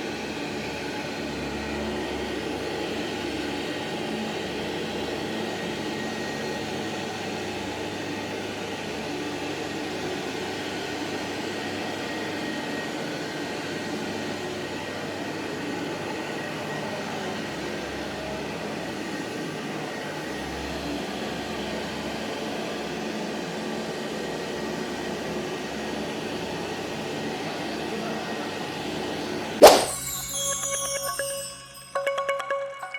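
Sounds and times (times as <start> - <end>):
vacuum cleaner running: 0.0 - 29.6.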